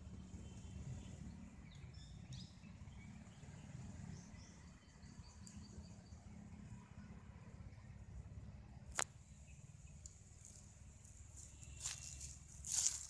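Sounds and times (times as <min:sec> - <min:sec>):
birds chirping: 0:00.0 - 0:08.1, 0:09.1 - 0:13.0.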